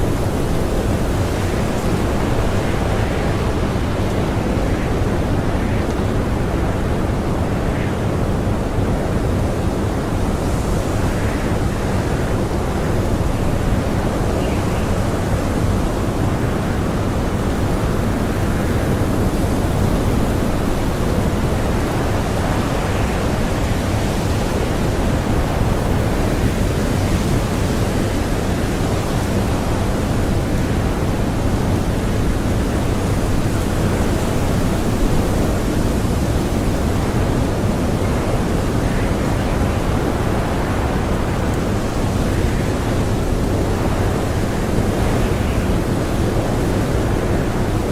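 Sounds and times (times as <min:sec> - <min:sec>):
strong blizzard wind blowing: 0:00.0 - 0:47.9.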